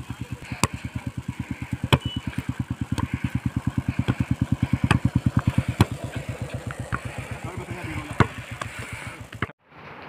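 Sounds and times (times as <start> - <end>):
foot kicking ball thuds: 0.0 - 9.5
low engine-like pulsing: 0.0 - 9.6.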